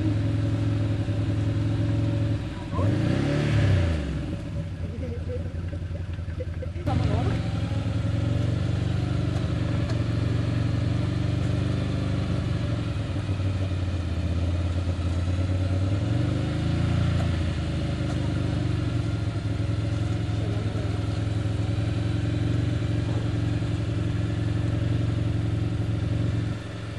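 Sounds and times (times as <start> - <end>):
atv engines running: 0.0 - 26.9
quad engine revving: 0.0 - 26.9.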